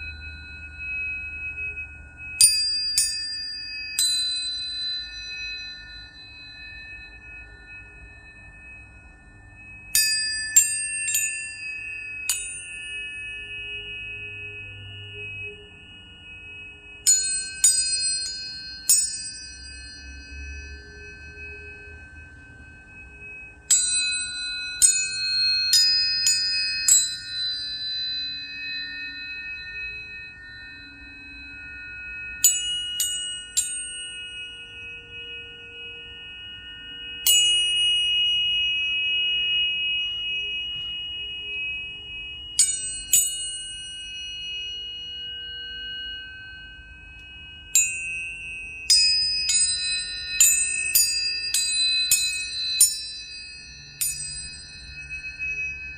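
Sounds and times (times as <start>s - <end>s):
tuning forks ringing: 0.0s - 55.9s.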